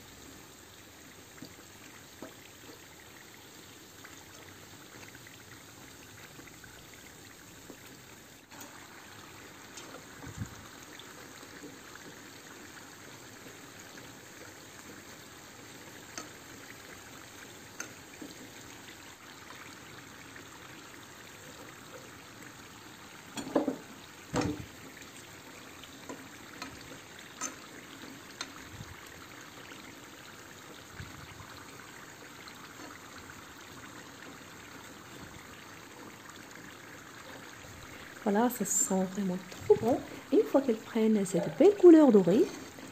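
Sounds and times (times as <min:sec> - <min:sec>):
pastries sizzling in hot oil: 0:00.0 - 0:42.9.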